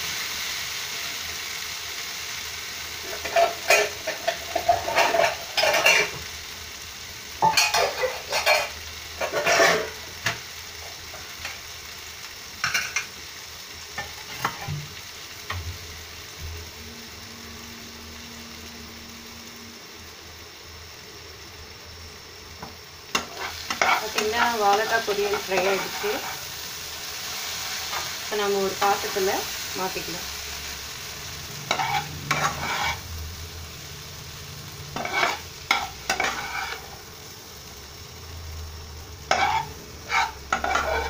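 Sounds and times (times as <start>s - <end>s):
food sizzling in oil: 0.0s - 41.0s.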